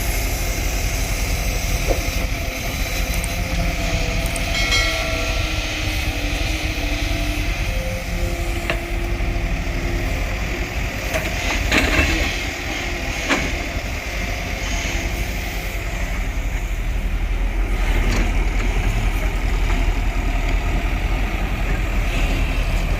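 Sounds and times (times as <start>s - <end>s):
heavy diesel engine running: 0.0s - 22.9s.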